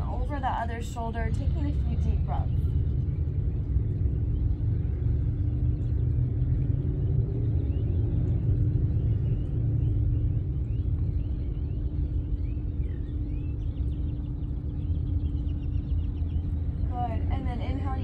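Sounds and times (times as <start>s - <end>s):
faint constant hum: 0.0s - 18.0s
low outdoor rumble: 0.0s - 18.0s.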